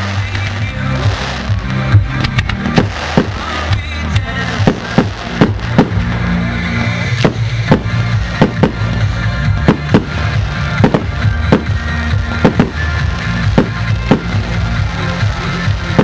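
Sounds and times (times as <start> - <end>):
fireworks bangs: 0.0 - 16.0
music with bass line: 0.0 - 16.0.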